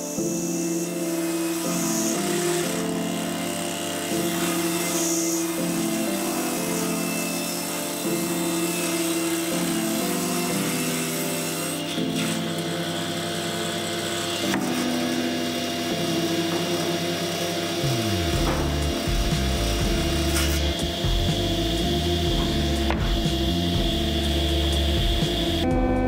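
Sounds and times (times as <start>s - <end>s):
table saw cutting wood: 0.0s - 26.0s.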